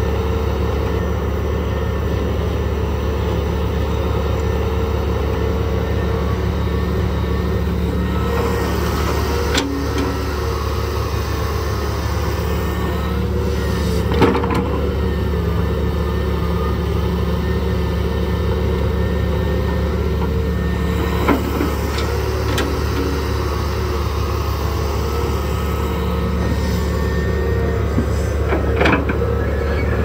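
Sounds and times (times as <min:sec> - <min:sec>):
excavator diesel engine droning: 0:00.0 - 0:30.0.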